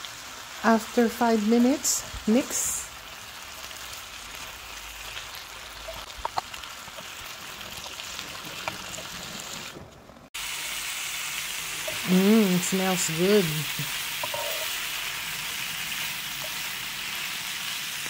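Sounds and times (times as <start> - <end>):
vegetables and meat sizzling: 0.0 - 18.0.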